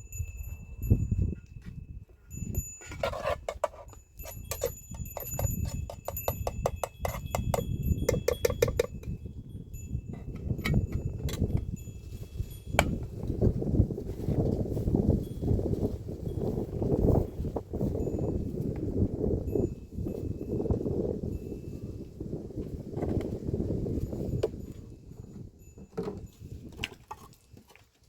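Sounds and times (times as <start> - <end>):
livestock bells jingling: 0.0 - 13.2, 15.2 - 22.4, 23.4 - 27.4.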